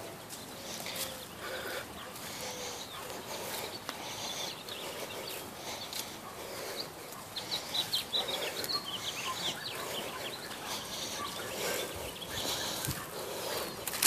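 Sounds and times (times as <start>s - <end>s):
small birds chirping: 0.0s - 14.0s
steady outdoor background hiss: 0.0s - 14.0s.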